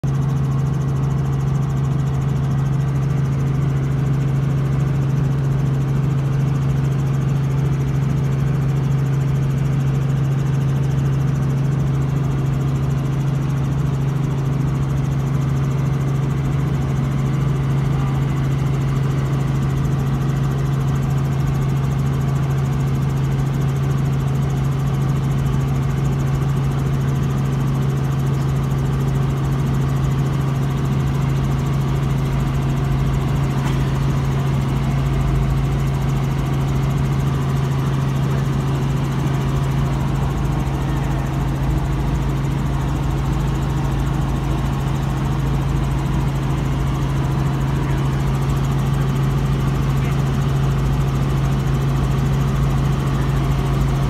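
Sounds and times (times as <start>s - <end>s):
helicopter cabin drone: 0.0s - 54.0s.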